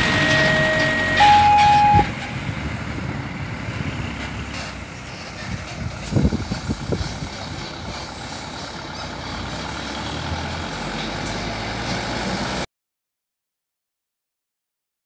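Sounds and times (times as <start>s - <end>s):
truck engines running: 0.0s - 12.7s.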